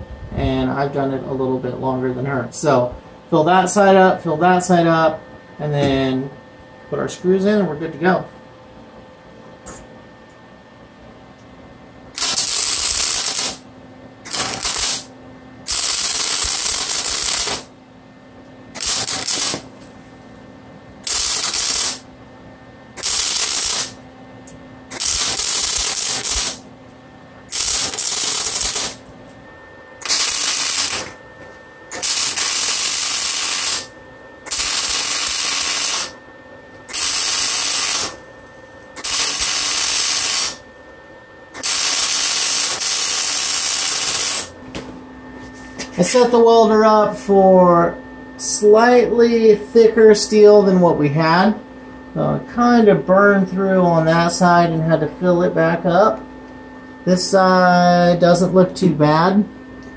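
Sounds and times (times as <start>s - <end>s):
arc welder buzzing: 10.9s - 59.9s.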